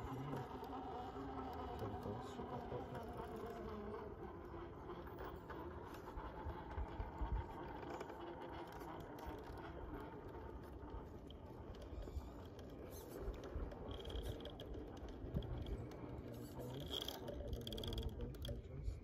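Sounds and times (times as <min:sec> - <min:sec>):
electric motor and gear whine: 0:00.0 - 0:19.0.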